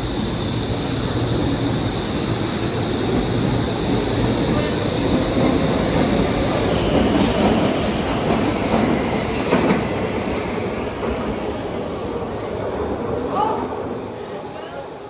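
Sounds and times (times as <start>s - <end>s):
high whine of train: 0.0s - 15.0s
train rumbling along track: 0.0s - 15.0s.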